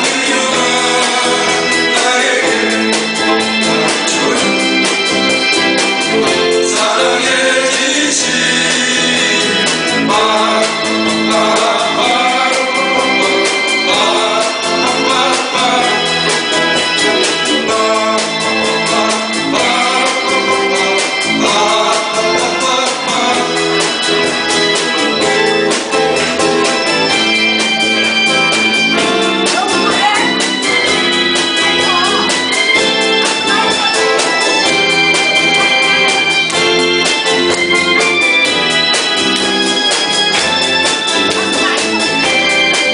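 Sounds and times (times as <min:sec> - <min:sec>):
pop ballad singer: 0:00.0 - 0:27.1, 0:28.6 - 0:42.9
electronic keyboard with steady beat: 0:00.0 - 0:42.9.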